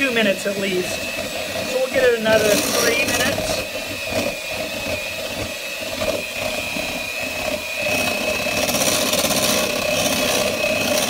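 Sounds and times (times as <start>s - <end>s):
electric mixer running: 0.0s - 11.0s.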